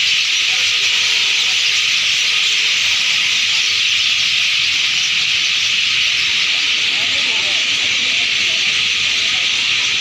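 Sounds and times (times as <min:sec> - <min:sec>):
chorus of birds chirping: 0:00.0 - 0:10.0.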